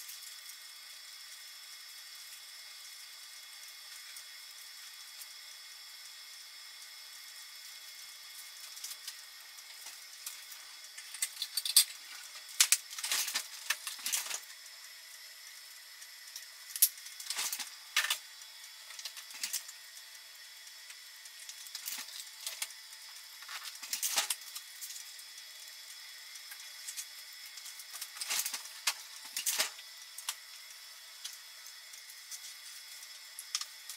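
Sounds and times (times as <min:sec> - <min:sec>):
clicking and crackling of boiling pot: 0:00.0 - 0:33.9.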